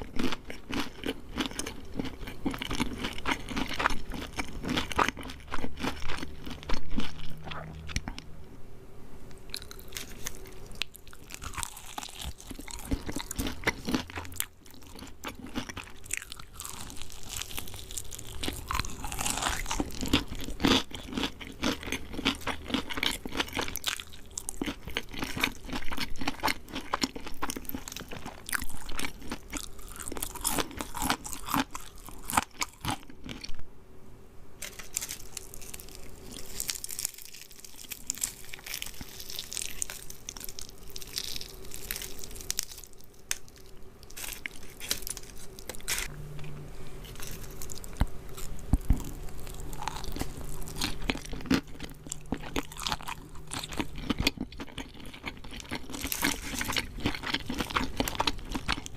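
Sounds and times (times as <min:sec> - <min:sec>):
crunching fried chicken: 0:00.0 - 0:08.3, 0:09.4 - 0:33.6, 0:34.6 - 0:58.9.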